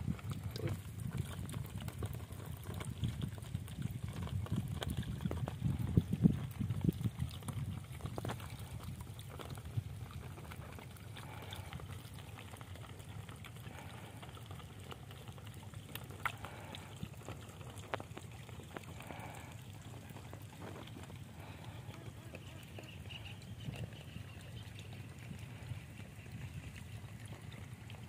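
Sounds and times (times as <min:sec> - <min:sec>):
faint clicks and ticks: 0:00.0 - 0:28.0.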